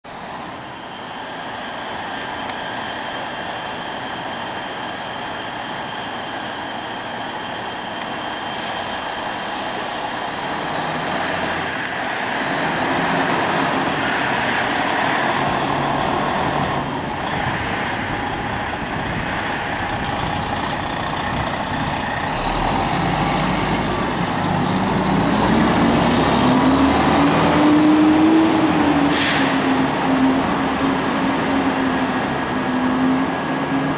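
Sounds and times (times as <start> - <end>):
fire engine diesel engine: 0.1 - 33.9.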